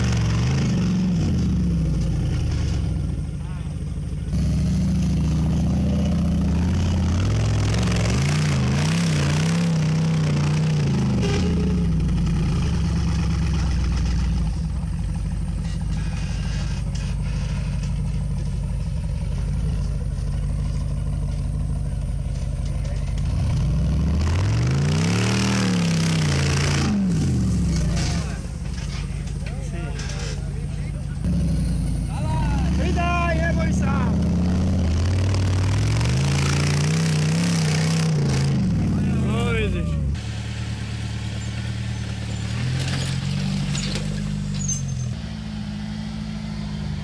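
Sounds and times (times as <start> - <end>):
off-road vehicle engine revving: 0.0 - 47.0.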